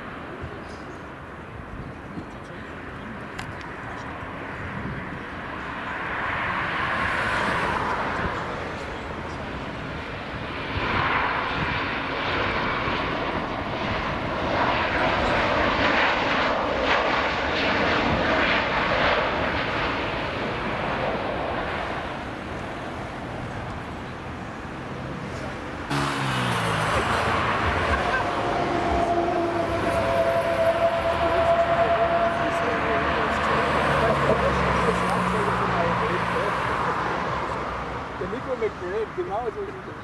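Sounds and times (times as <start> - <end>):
jet engines roaring on landing: 0.0 - 40.0.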